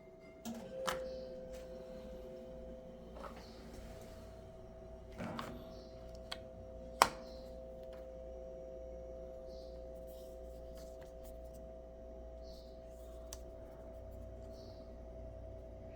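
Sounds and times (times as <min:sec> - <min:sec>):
steady two-tone hum: 0:00.0 - 0:15.9.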